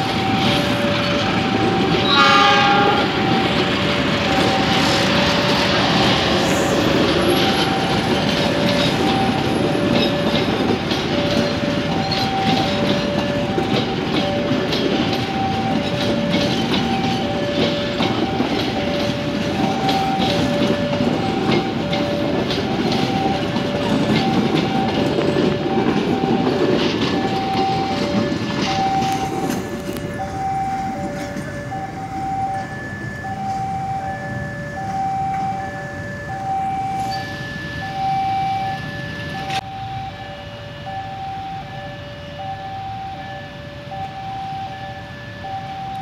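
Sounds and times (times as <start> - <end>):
train wheels rumbling and clicking: 0.0 - 46.0.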